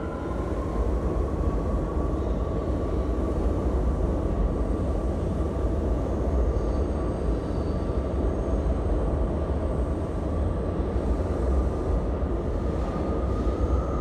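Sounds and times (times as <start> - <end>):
faint steady whine: 0.0 - 14.0
subway train rumbling: 0.0 - 14.0.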